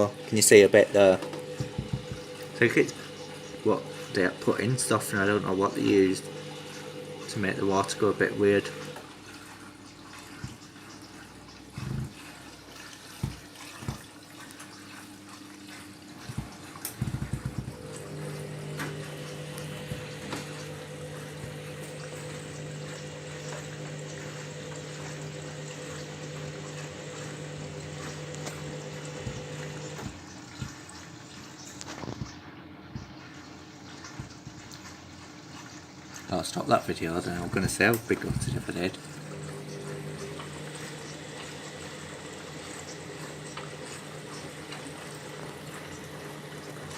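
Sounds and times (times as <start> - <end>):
washing machine hum: 0.0 - 46.9
water splashing into drum: 0.0 - 46.9.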